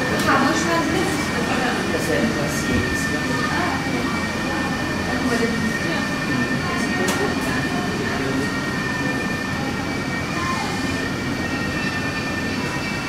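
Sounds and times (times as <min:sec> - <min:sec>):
even hall hum: 0:00.0 - 0:13.0
faint murmur of voices: 0:00.0 - 0:13.0.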